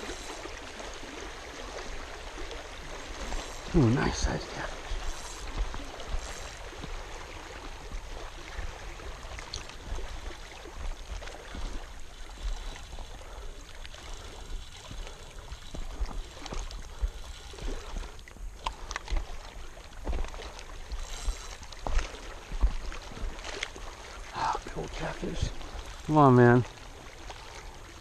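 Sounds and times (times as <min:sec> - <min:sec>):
water splashing and trickling: 0:00.0 - 0:28.0.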